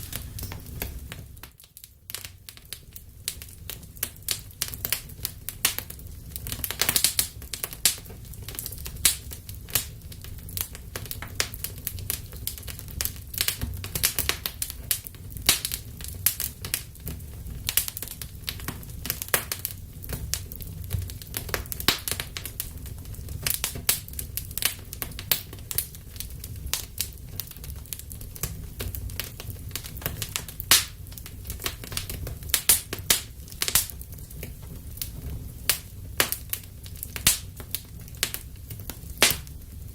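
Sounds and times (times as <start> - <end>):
fire pops and snaps: 0.0 - 39.9
low rumble of flames: 0.0 - 39.9
wood fire crackling: 0.0 - 39.9.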